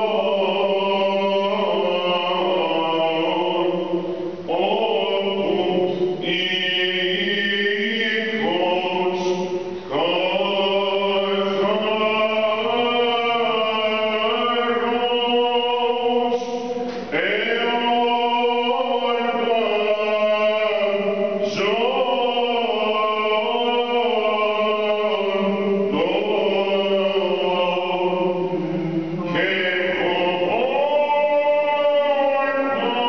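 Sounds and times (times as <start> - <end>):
man chanting: 4.5 - 28.3, 29.2 - 33.0.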